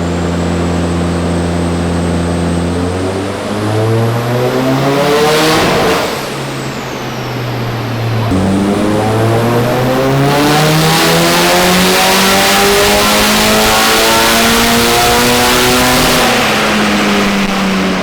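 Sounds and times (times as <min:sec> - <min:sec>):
turbocharged car engine revving: 0:00.0 - 0:18.0.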